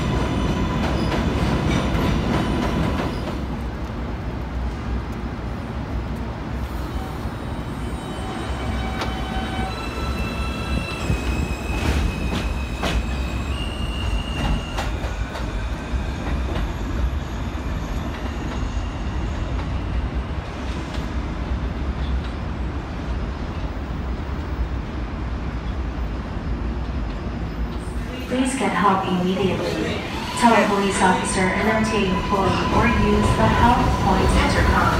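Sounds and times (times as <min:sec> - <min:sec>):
subway train rumble: 0:00.0 - 0:34.9.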